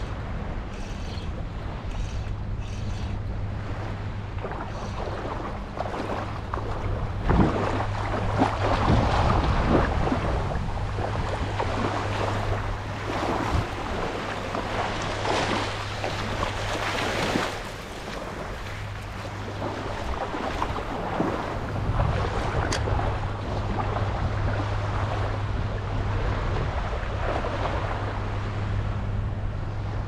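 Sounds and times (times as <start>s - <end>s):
shallow water lapping and splashing: 0.0s - 30.0s
steady low hum: 0.0s - 30.0s
wind on microphone: 0.0s - 30.0s.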